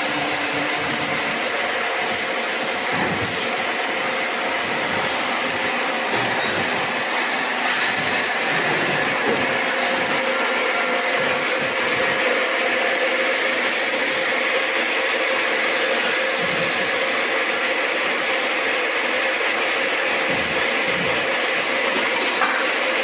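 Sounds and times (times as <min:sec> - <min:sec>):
welding machine hissing: 0:00.0 - 0:23.0.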